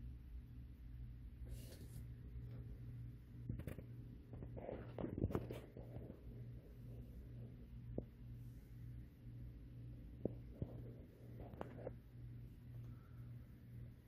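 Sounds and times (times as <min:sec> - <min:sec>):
pulsing low hum: 0:00.0 - 0:14.0.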